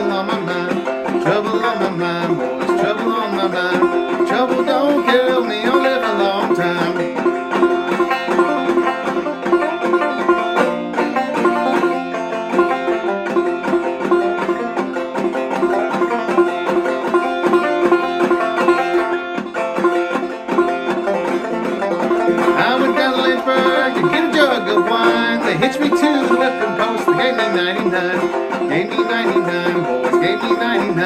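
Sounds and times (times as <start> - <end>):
banjo picking: 0.0 - 31.0.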